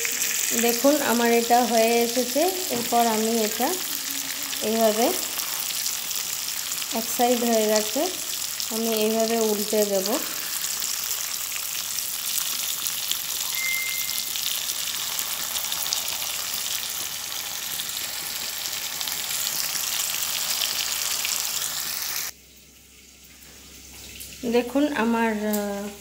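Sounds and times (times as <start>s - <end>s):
food sizzling in hot oil: 0.0s - 22.4s.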